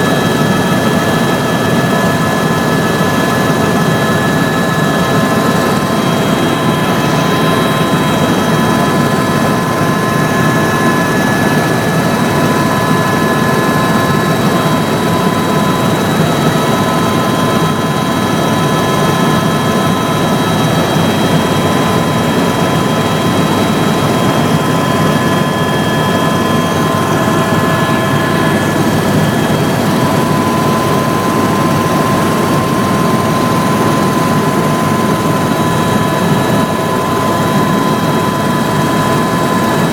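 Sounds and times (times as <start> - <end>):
helicopter engine and rotor rumble: 0.0 - 39.9.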